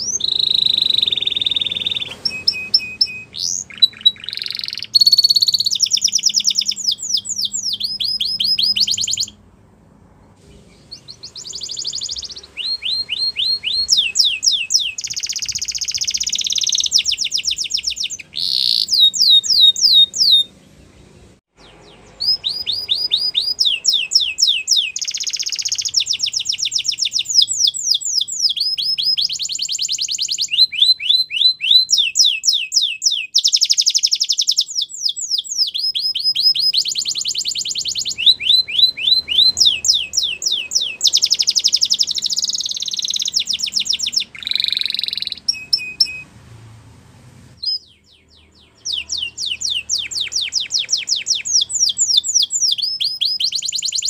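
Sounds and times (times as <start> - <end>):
canary singing trills: 0.0 - 9.4, 10.2 - 46.3, 47.6 - 54.0.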